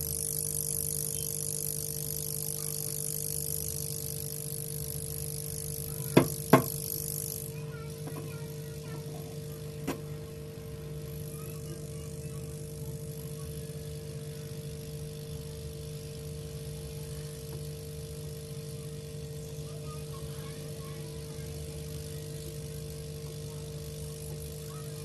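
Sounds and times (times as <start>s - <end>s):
electrical hum: 0.0s - 25.0s
hot air gun hissing: 0.0s - 25.0s.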